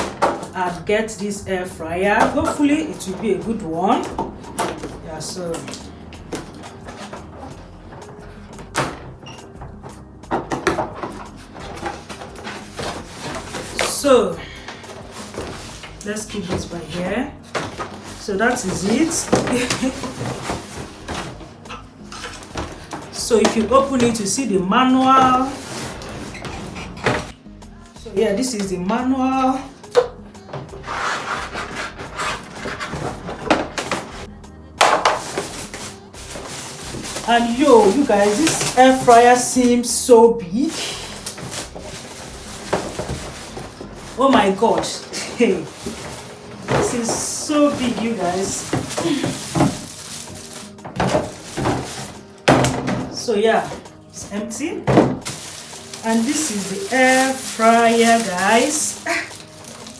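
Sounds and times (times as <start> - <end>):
scraping and knocking: 2.2 - 14.0, 14.7 - 24.4, 25.0 - 27.4, 30.0 - 39.6, 40.9 - 54.0, 54.9 - 59.9
cardboard packaging handled: 2.2 - 27.4, 29.4 - 59.9.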